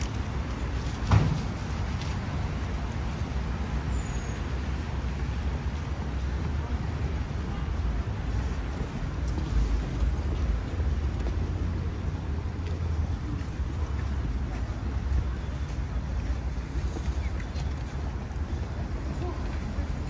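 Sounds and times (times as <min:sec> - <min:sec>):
city traffic hum: 0:00.0 - 0:20.0.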